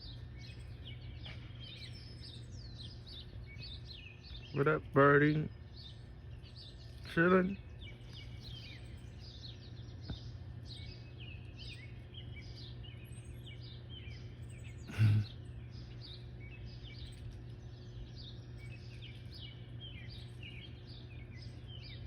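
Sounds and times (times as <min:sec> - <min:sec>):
low background hum: 0:00.0 - 0:22.0
songbirds chirping: 0:00.0 - 0:22.0.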